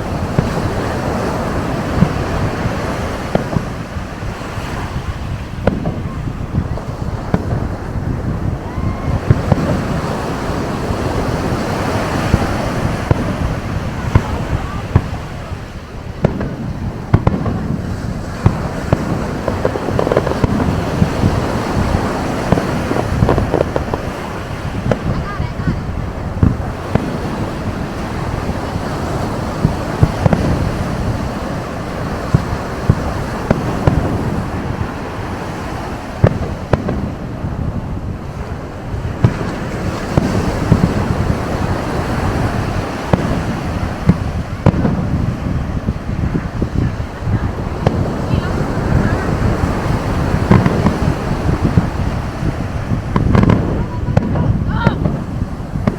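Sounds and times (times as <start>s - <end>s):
fireworks bangs and crackling: 0.0s - 55.9s
surf: 0.0s - 55.9s.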